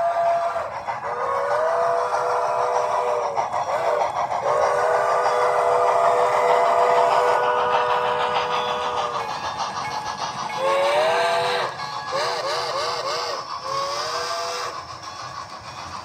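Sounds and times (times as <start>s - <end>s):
model train steam whistle: 0.0s - 15.7s
model train running noise: 0.0s - 16.0s.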